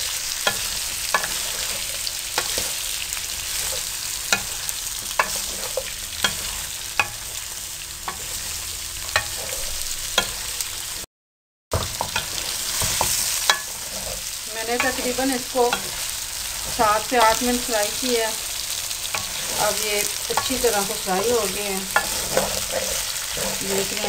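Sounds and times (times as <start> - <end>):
potatoes sizzling in oil: 0.0 - 11.1, 11.7 - 24.0.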